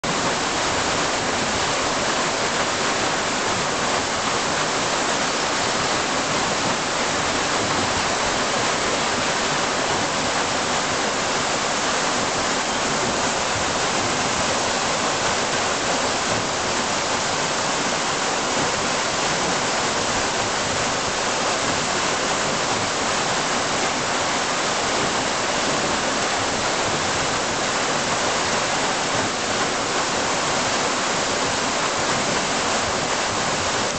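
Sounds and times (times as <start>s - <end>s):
water pouring and splashing: 0.0s - 33.9s.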